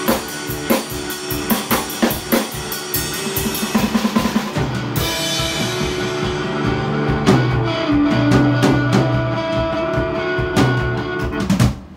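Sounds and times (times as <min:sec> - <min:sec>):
electric bass playing: 0:00.0 - 0:11.8
drum kit playing: 0:00.0 - 0:11.9.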